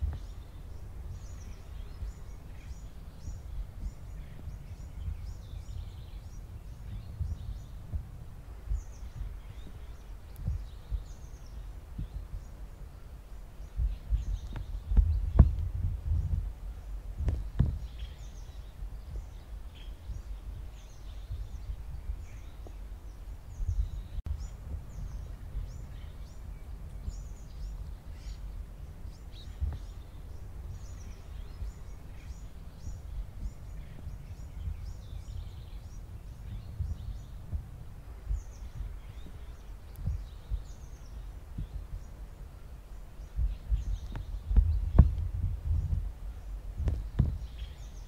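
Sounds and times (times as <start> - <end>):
small birds chirping: 0.0 - 48.0
steady low rumble: 0.0 - 48.0.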